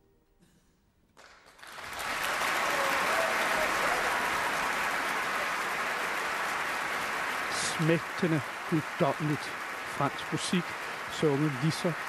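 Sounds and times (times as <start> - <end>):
audience applause: 1.2 - 12.0.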